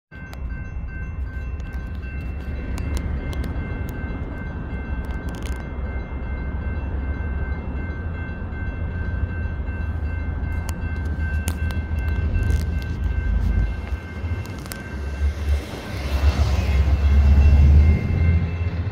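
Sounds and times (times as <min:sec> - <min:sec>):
crossing signal ringing: 0:00.1 - 0:18.9
freight train rumble: 0:00.1 - 0:18.9.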